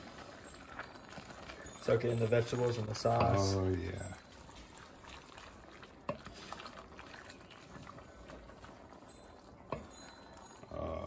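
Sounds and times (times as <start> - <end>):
spoon stirring: 0.0 - 10.7
cream sauce bubbling in a pot: 0.0 - 11.0.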